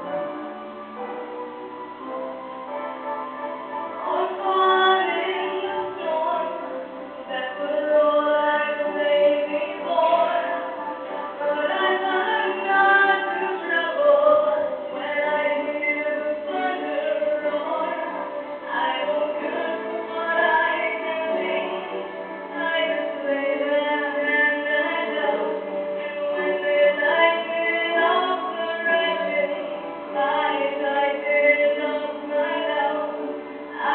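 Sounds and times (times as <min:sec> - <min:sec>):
musical accompaniment: 0:00.0 - 0:33.9
woman singing: 0:03.9 - 0:33.9.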